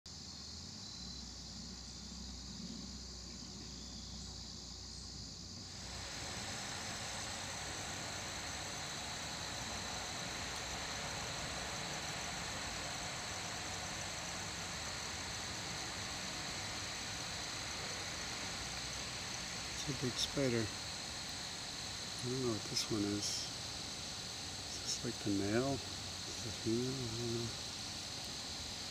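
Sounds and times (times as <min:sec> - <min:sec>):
insect chorus trilling: 0:00.1 - 0:28.9
outdoor background hiss: 0:00.1 - 0:28.9.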